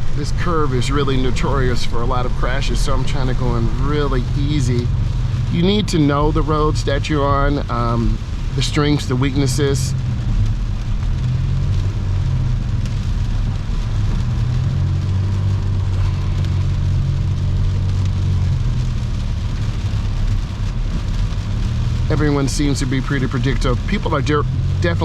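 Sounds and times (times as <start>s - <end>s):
engine and tyre drone: 0.0s - 25.0s
water hissing off tyres: 0.0s - 25.0s.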